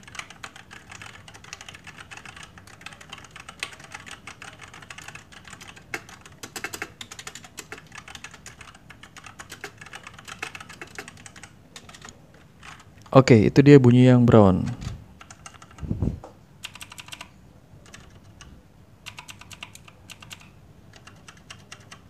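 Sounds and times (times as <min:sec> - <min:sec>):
fast typing on mechanical keyboard: 0:00.0 - 0:12.9, 0:15.2 - 0:15.8, 0:16.6 - 0:22.0.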